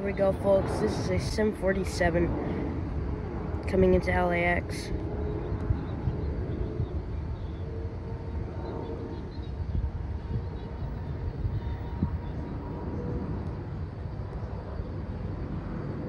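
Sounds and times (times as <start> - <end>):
distant jet rumble: 0.0 - 16.0.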